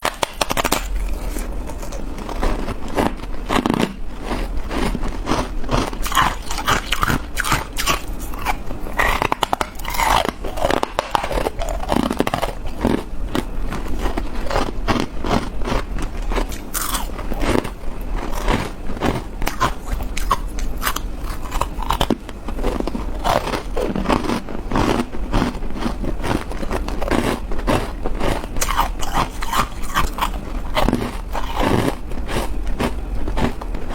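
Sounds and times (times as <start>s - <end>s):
person crunching ice: 0.0s - 33.6s.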